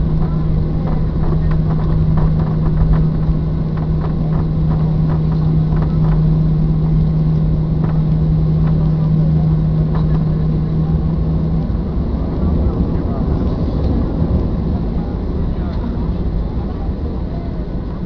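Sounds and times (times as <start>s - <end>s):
aircraft engines humming: 0.0s - 18.0s.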